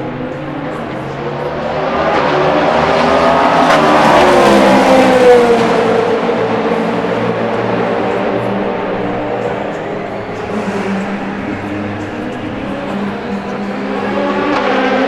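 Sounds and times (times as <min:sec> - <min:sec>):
race car passing by: 0:00.0 - 0:15.0.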